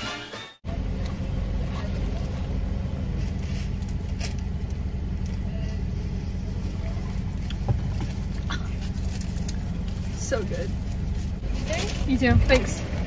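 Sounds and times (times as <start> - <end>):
car engine rumble inside cabin: 0.6 - 13.0.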